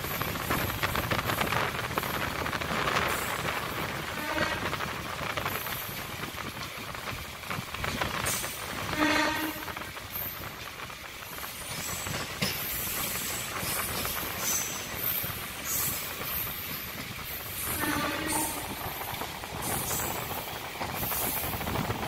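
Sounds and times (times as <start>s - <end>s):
train wheels rumbling and rattling: 0.0s - 22.0s.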